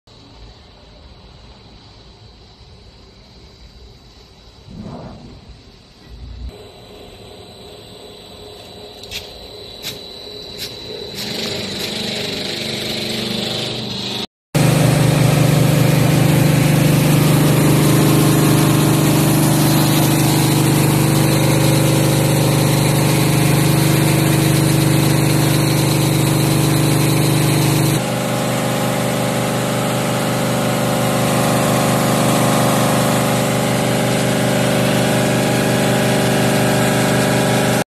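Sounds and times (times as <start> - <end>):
machinery humming: 4.5 - 37.8.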